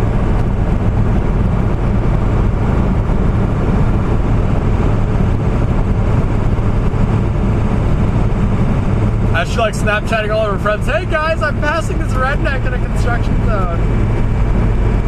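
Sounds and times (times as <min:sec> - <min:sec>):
pickup engine drone: 0:00.0 - 0:15.0
road noise: 0:00.0 - 0:15.0.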